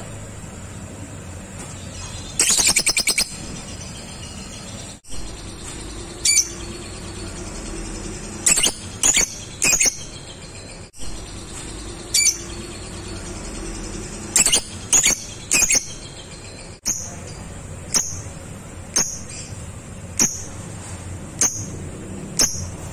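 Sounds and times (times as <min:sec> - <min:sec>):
lovebird high-pitched chirps: 0:01.6 - 0:20.6, 0:21.4 - 0:22.9.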